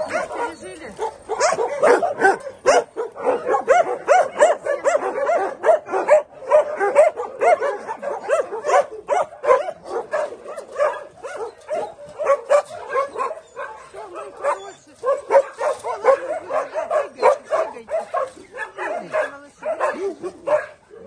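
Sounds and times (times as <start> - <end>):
dogs barking and yelping: 0.0 - 21.0.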